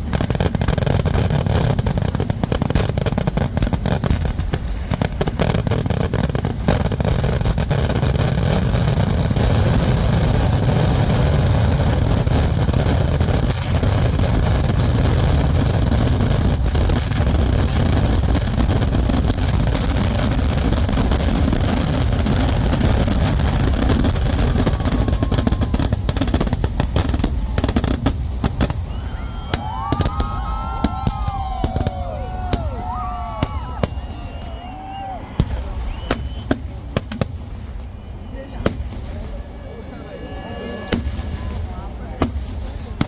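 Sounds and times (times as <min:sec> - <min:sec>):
fireworks bangs and crackling: 0:00.0 - 0:40.2, 0:40.8 - 0:43.0
fireworks whistles: 0:00.0 - 0:43.0.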